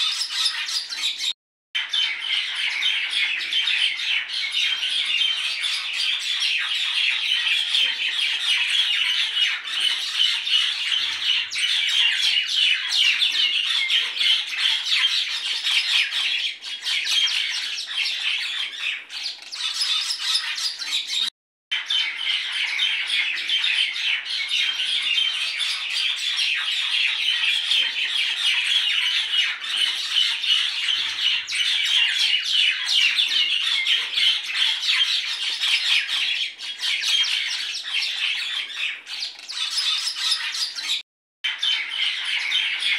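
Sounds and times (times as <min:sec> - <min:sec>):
flock of birds calling: 0:00.0 - 0:42.9.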